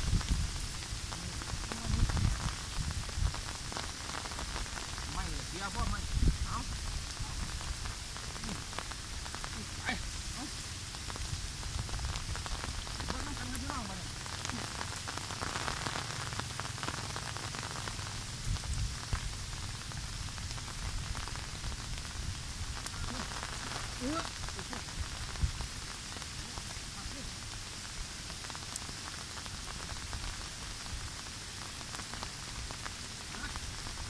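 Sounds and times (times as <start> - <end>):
rain on vegetation: 0.0 - 34.0.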